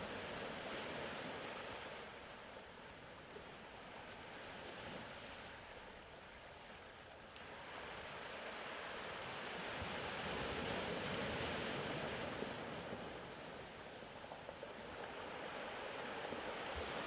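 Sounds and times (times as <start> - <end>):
faint ocean waves on shore: 0.0 - 17.0.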